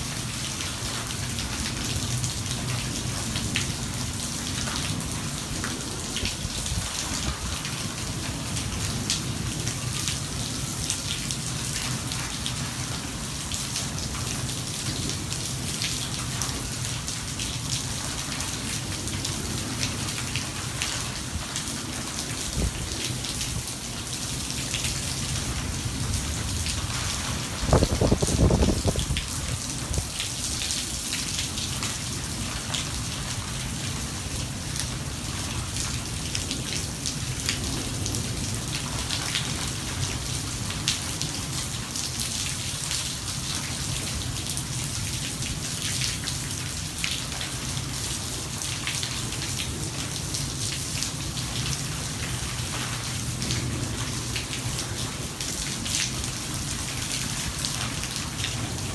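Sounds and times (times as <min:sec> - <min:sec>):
heavy rain pouring: 0:00.0 - 0:58.9
raindrops hitting surfaces: 0:00.0 - 0:58.9.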